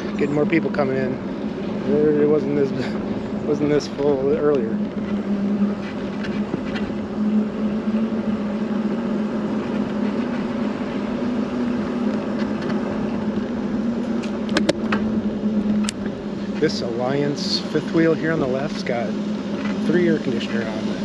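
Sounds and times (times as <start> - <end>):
engine hum: 0.0 - 21.0
road noise: 0.0 - 21.0.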